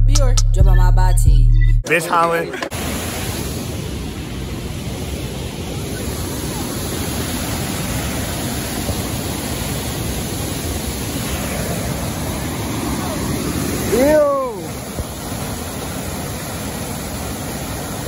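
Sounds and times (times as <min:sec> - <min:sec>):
waterfall rushing: 0:02.6 - 0:18.0.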